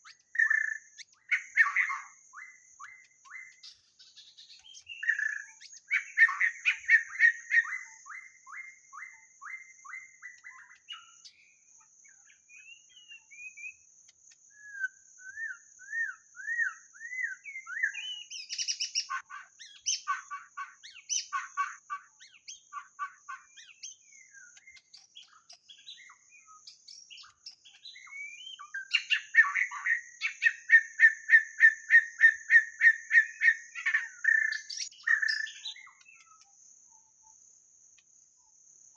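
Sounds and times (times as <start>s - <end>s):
bird singing whistled phrases: 0.0s - 11.5s, 12.3s - 13.8s, 14.5s - 36.5s.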